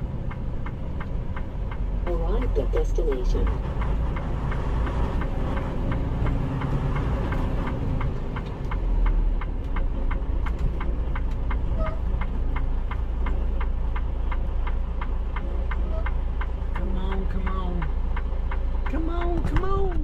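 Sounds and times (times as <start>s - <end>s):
diesel engine rumbling: 0.0s - 20.0s
regular sharp ticking: 0.0s - 20.0s.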